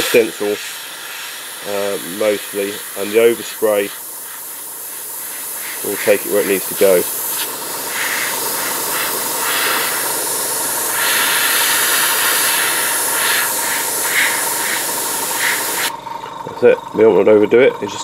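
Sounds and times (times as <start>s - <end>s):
airbrush spraying hiss: 0.0s - 16.0s.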